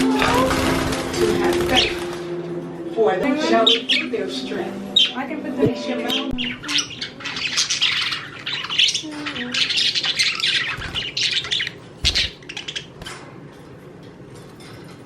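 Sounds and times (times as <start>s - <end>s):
pet birds squawking and chirping: 0.0s - 13.6s.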